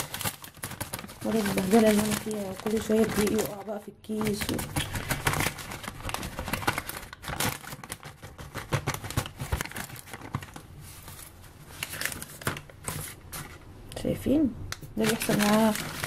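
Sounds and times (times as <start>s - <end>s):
paper bag crinkling and rustling: 0.0s - 13.6s, 15.0s - 16.0s
small crackles and knocks: 0.0s - 13.6s.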